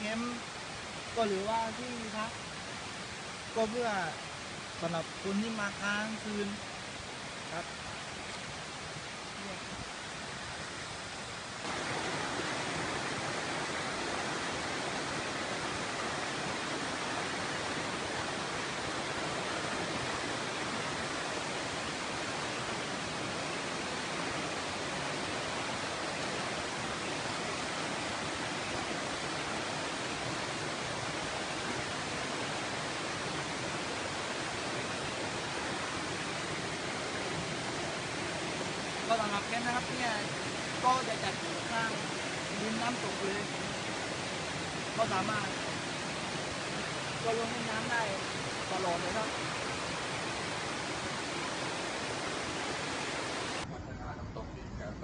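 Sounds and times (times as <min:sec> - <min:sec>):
waterfall rushing water: 0:00.0 - 0:53.7.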